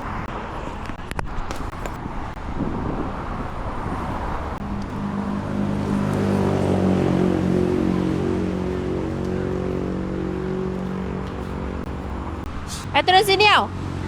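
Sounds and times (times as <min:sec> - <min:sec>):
highway traffic noise: 0:00.0 - 0:14.0
vehicle engine approaching: 0:00.0 - 0:14.0.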